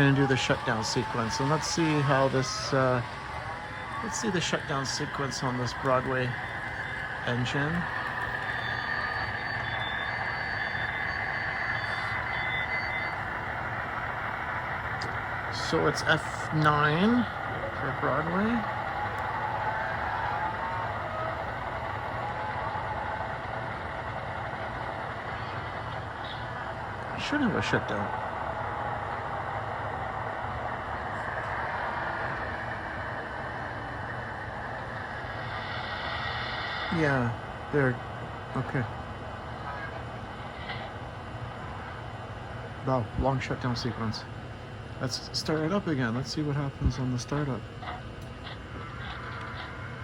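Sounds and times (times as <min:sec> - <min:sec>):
model train diesel engine sound: 0:00.0 - 0:50.0.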